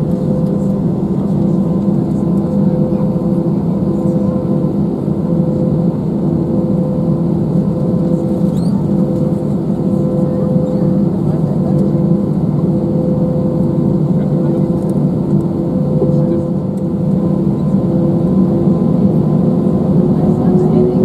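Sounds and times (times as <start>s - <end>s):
aircraft engine drone in cabin: 0.0s - 21.0s.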